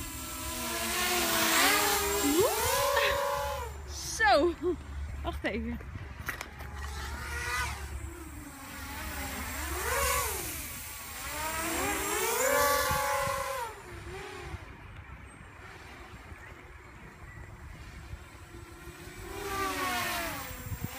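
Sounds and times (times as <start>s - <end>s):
quadcopter motors whining: 0.0s - 20.9s.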